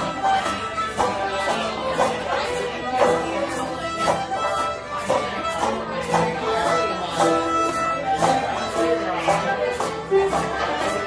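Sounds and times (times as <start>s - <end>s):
bowed fiddle melody: 0.0s - 11.0s
picked banjo: 0.0s - 11.0s
strummed acoustic guitar: 0.0s - 11.0s.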